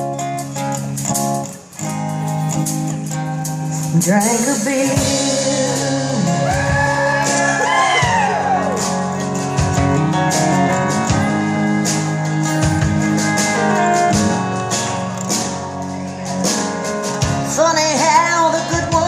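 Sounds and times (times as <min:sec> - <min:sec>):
guitar fill with bent notes: 0:00.0 - 0:19.0
live band playing country ballad: 0:00.0 - 0:19.0.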